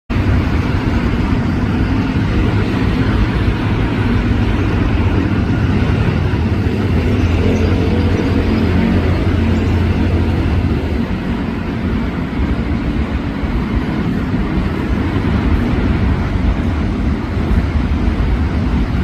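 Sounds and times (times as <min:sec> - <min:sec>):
diesel engine drone: 0:00.1 - 0:19.0
train rumbling and rolling: 0:00.1 - 0:19.0.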